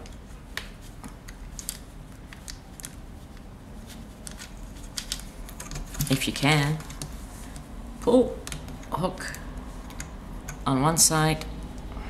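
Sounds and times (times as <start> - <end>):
rubber bands clicking and rustling: 0.0 - 10.1.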